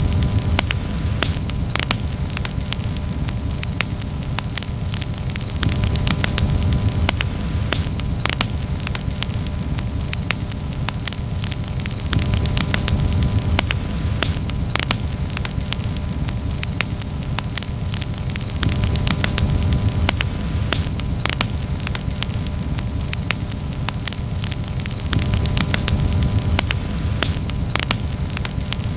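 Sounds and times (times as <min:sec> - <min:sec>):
campfire pops and snaps: 0:00.0 - 0:28.9
low rush of burning: 0:00.0 - 0:28.9.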